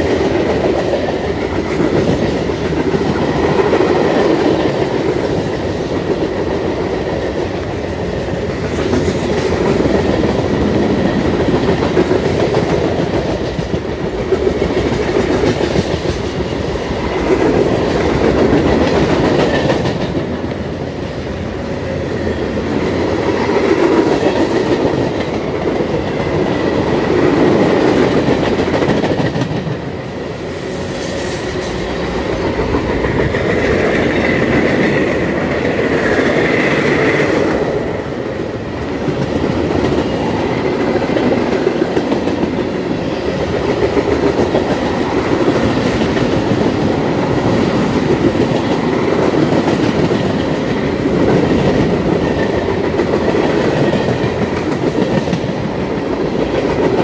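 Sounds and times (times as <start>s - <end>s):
clickety-clack over rail joints: 0.0s - 30.0s, 31.9s - 57.0s
train wheels rumbling on rail: 0.0s - 57.0s.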